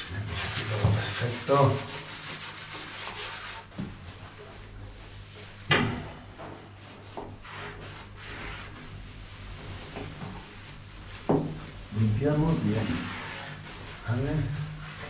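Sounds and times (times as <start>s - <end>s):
scouring pad scrubbing: 0.0s - 4.3s, 6.8s - 15.0s.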